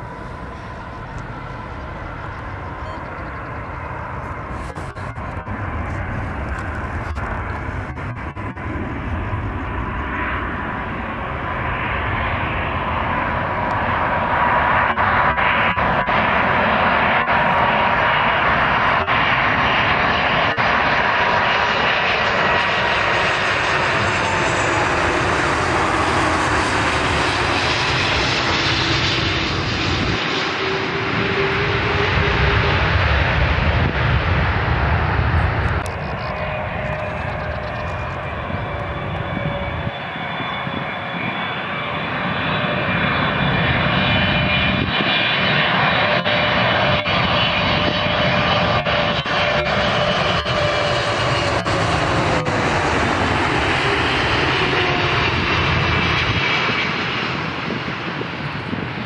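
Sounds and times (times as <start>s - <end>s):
jet engines approaching: 0.0s - 59.0s
jet engines passing overhead: 0.0s - 59.0s.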